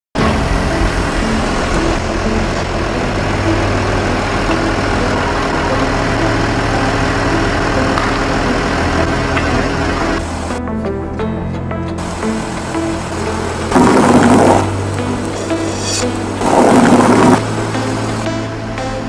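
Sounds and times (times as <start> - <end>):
car engine idling: 0.1 - 10.8, 11.5 - 19.0.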